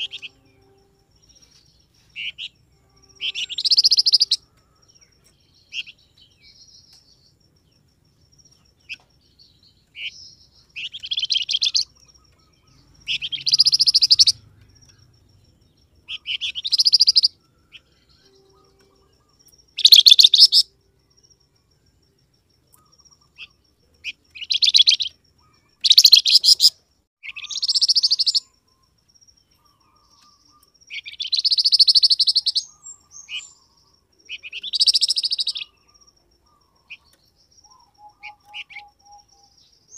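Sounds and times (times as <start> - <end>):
songbird singing trilled phrases: 0.0 - 39.9.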